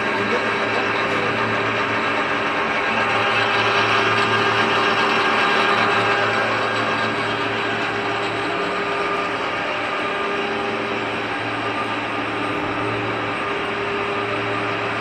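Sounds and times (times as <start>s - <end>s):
constant low hum: 0.0s - 15.0s
machine tool motor whirring: 0.0s - 15.0s.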